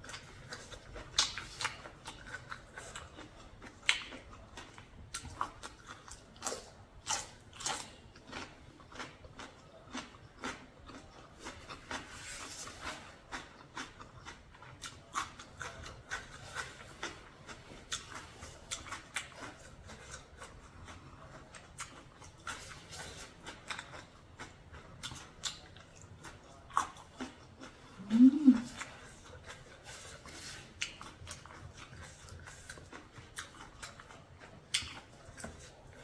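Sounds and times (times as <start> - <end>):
person chewing and crunching food: 0.0 - 36.0.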